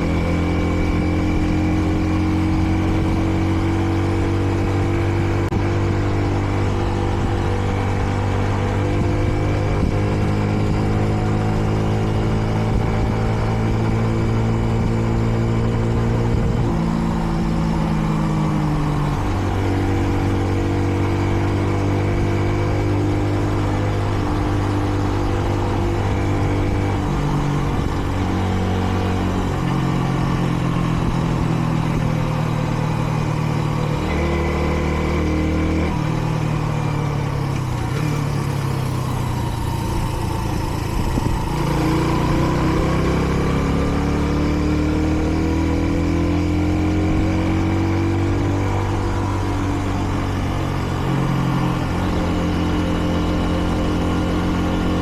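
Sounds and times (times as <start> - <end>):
motorcycle engine changing gears: 0.0 - 55.0.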